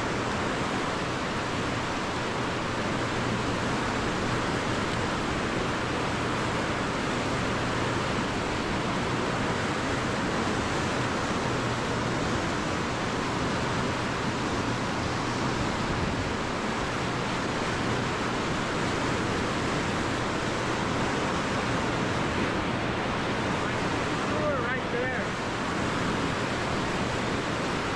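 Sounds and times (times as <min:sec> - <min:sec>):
fast-flowing river water: 0:00.0 - 0:27.9.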